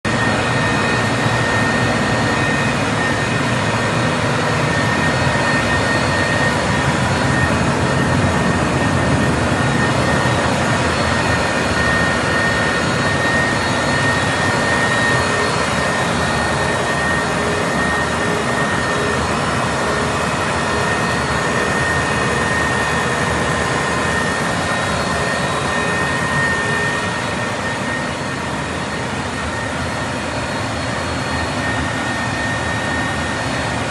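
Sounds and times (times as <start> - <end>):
generator engine running: 0.1 - 33.9
high-pitched whine: 0.1 - 33.9.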